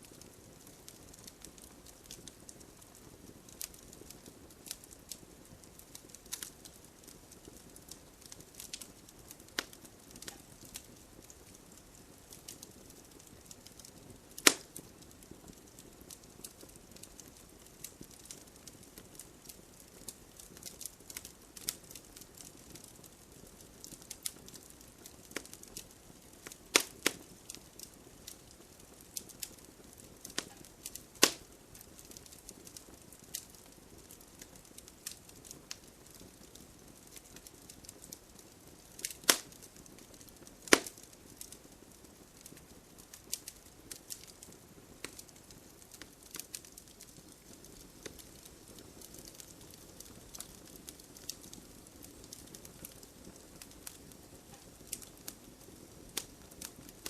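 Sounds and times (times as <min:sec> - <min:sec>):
fire popping: 0:00.0 - 0:57.0
wood campfire crackling: 0:00.0 - 0:57.0.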